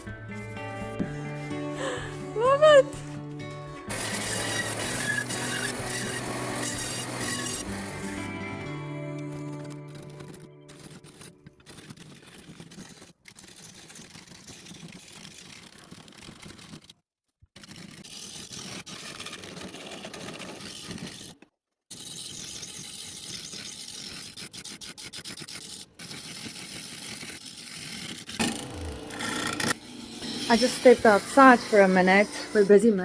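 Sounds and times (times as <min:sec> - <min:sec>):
tool scraping spinning wood: 0:00.0 - 0:16.9, 0:17.6 - 0:33.0.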